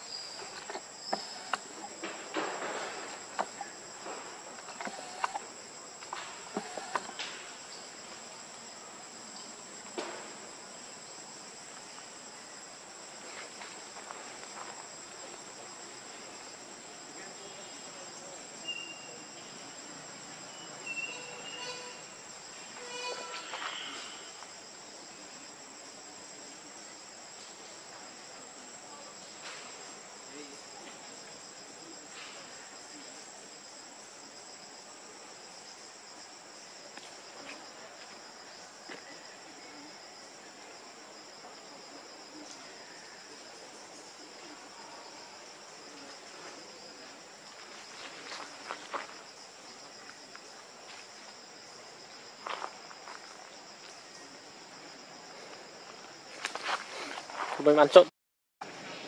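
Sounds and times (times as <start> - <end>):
forest insects droning: 0.0 - 59.0.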